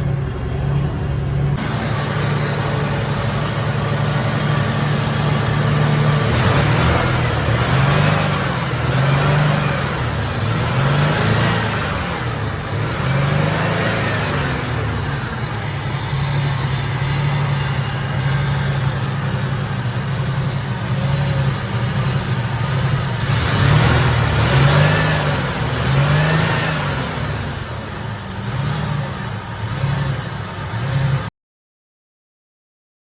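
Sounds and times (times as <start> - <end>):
truck engine revving: 0.0 - 31.3.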